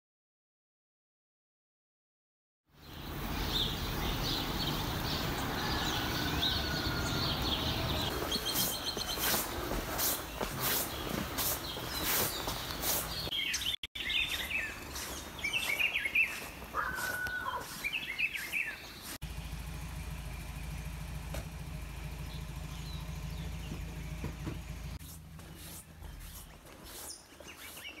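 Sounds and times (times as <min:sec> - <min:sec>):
birds chirping and singing: 0:02.8 - 0:21.1, 0:21.7 - 0:28.0.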